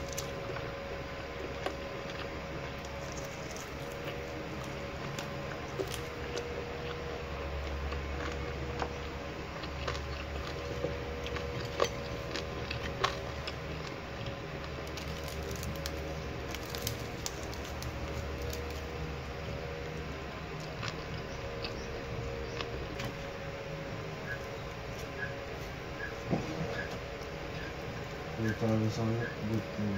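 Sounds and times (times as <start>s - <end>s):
fried chicken skin crackling: 0.0s - 29.0s
steady low hum: 0.0s - 29.9s.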